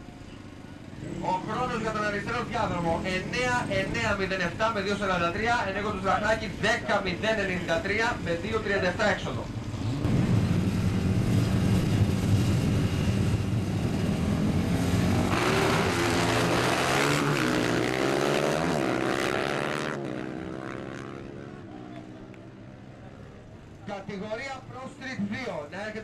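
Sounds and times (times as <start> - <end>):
motorcycle engines accelerating: 0.0 - 26.0.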